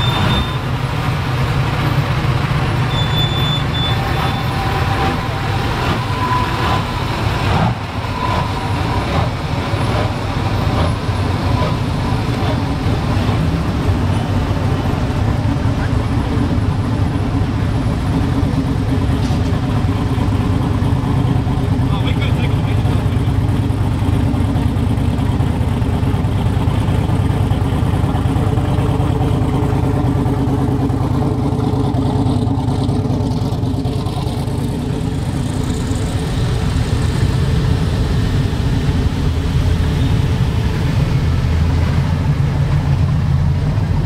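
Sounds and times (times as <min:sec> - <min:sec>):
pickup truck engines passing: 0:00.0 - 0:44.0.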